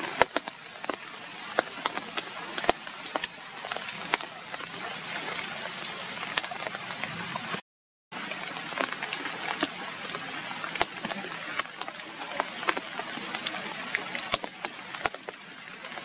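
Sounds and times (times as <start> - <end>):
steady rain falling: 0.0 - 7.6, 8.2 - 16.0.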